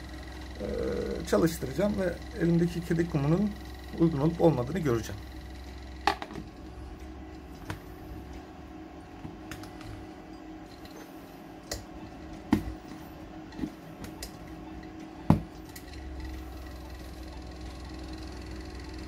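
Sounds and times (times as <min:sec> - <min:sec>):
vibrating tumbler hum: 0:00.0 - 0:19.0.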